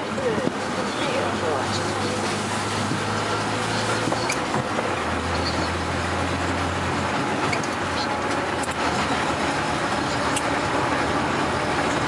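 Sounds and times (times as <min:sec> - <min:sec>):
vehicle road noise and engine hum: 0:00.0 - 0:12.0.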